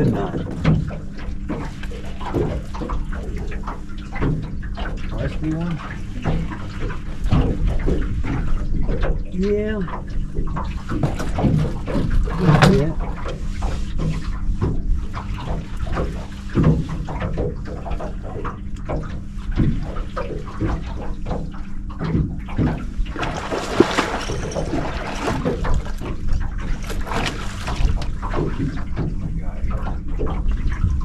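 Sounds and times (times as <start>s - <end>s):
steady low hum: 0.0s - 31.0s
water splashing and sloshing: 0.0s - 31.0s.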